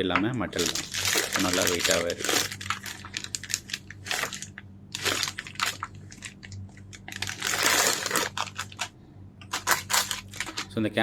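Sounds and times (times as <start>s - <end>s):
packaging rustling and crinkling: 0.5s - 8.9s, 9.5s - 10.8s.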